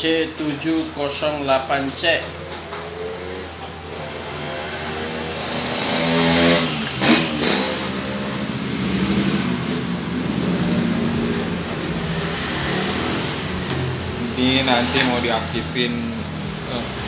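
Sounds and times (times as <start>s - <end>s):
engine revving: 2.1s - 17.0s.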